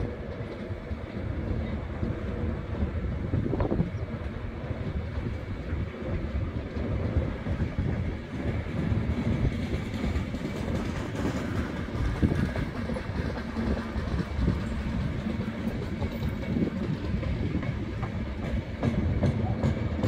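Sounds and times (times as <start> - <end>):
low rumble of wheels on track: 0.0 - 20.0
wheels clicking over rail joints: 0.0 - 20.0.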